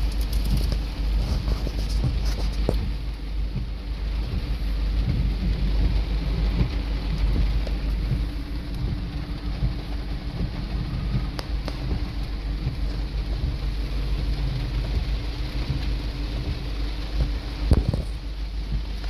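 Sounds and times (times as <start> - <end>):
heavy rain: 0.0 - 19.0
vehicles on flooded road: 0.0 - 19.0.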